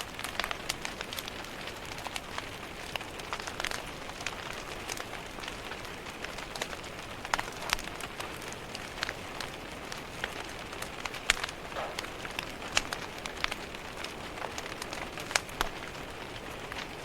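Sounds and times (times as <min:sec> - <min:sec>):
rain pattering on window glass: 0:00.0 - 0:17.0
wood fire crackling: 0:00.0 - 0:17.0.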